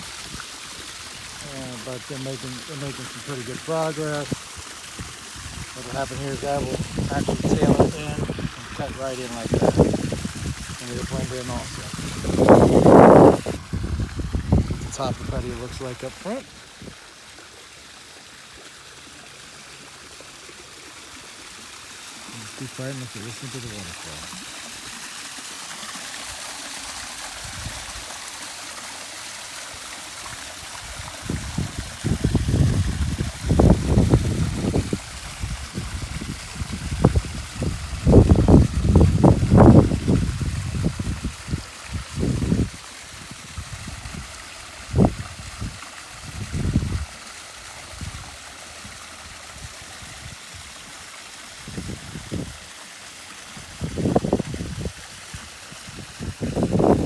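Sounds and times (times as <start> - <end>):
pond waterfall splashing: 0.0 - 57.0.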